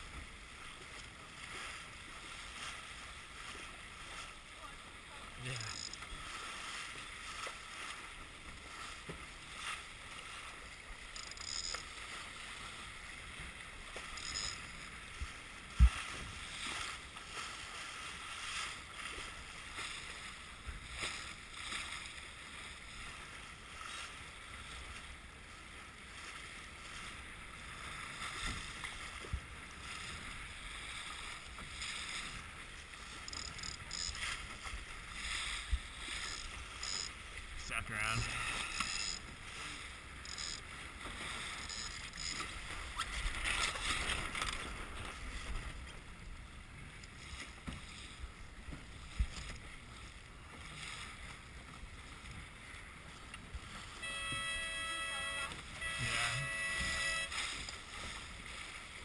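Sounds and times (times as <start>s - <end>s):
water rushing: 0.0s - 25.1s, 27.1s - 45.6s, 53.1s - 59.0s
wind: 0.0s - 59.0s.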